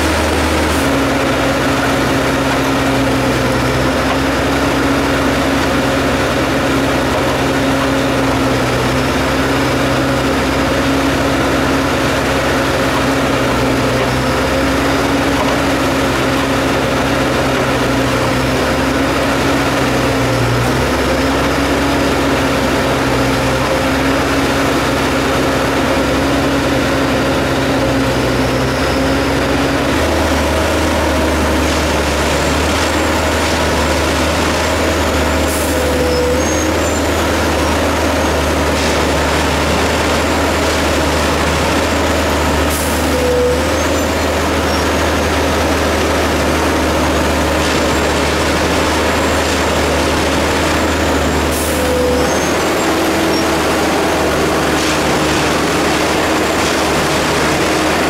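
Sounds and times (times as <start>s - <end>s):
heavy engine and hydraulic drone: 0.0s - 58.0s.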